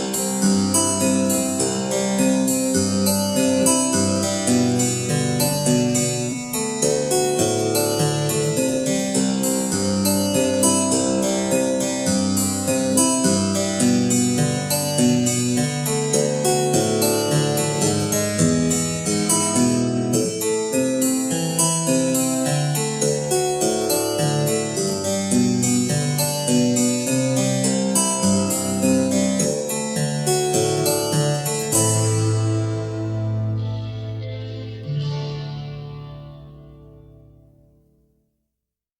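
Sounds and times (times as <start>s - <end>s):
harpsichord playing: 0.0s - 36.6s.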